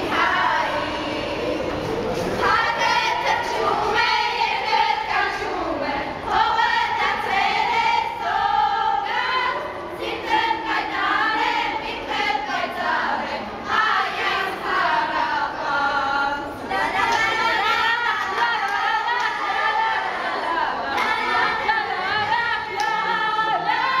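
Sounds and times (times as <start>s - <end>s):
girls singing in unison: 0.0s - 24.0s.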